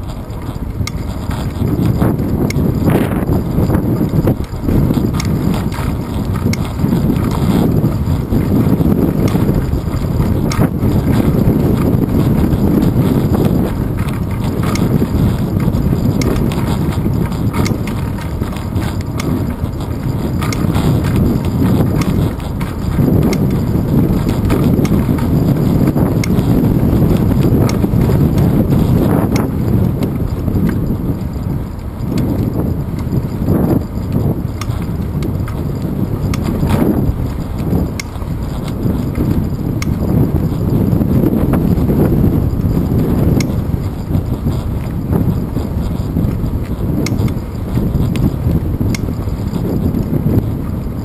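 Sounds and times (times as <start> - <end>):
bicycle clicks and rattles: 0.0 - 51.0
wind buffeting microphone: 0.0 - 51.0.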